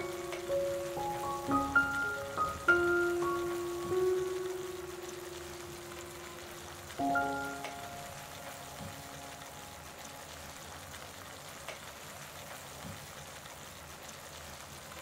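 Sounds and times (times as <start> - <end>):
masala sizzling in a pan: 0.0 - 15.0.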